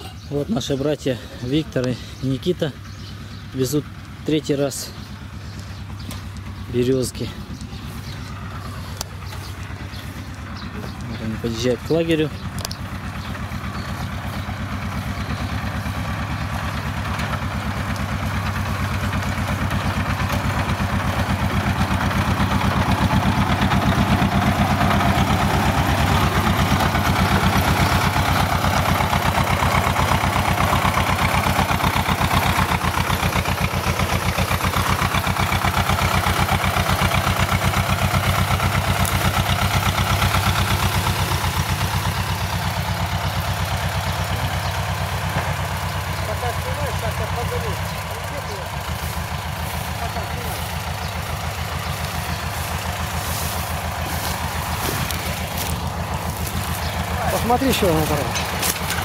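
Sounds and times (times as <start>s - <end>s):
tractor engine chugging: 0.0s - 59.0s.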